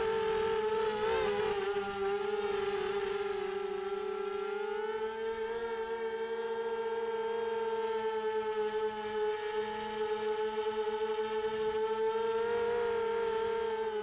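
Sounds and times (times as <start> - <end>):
drone motors and propellers whining: 0.0 - 14.0.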